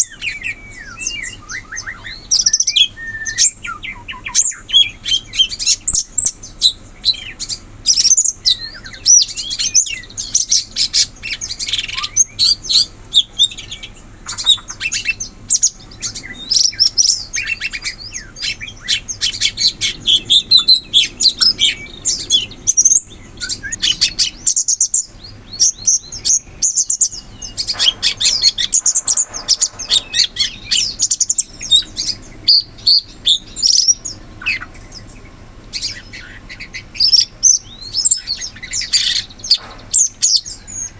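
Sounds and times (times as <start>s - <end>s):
bird singing rapid chirps and trills: 0.0s - 40.9s.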